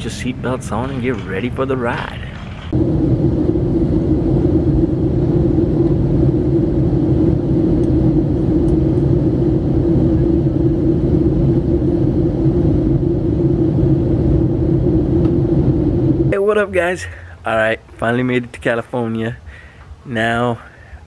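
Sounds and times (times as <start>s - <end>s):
constant cabin hum: 0.0s - 21.0s
jet engine and airflow drone: 0.0s - 21.0s.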